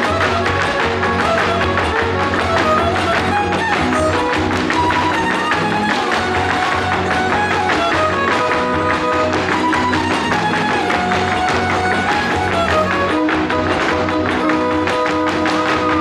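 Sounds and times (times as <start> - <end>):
dancers' feet tapping on stage: 0.0 - 16.0
strummed guitars: 0.0 - 16.0
violin melody: 0.0 - 16.0.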